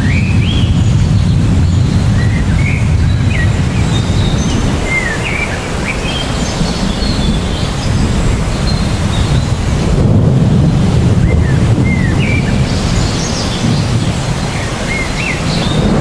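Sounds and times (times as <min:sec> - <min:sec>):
small birds chirping: 0:00.0 - 0:16.0
steady low rushing noise: 0:00.0 - 0:16.0.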